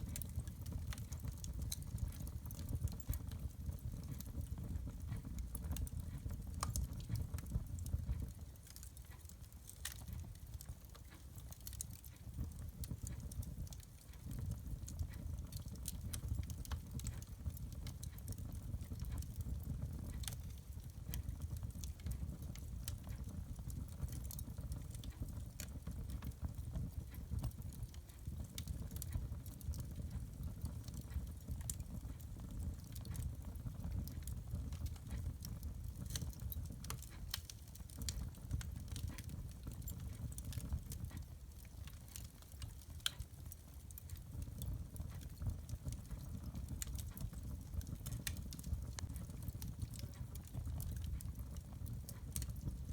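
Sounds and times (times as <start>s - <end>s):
sharp snaps of fire: 0.0s - 52.9s
wood fire crackling: 0.0s - 52.9s.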